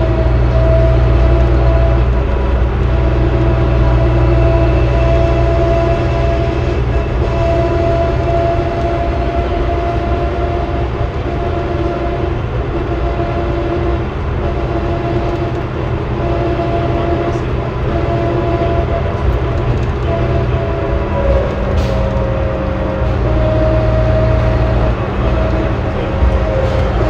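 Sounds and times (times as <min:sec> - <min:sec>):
bus engine drone: 0:00.0 - 0:27.0
high steady whining tones: 0:00.0 - 0:27.0.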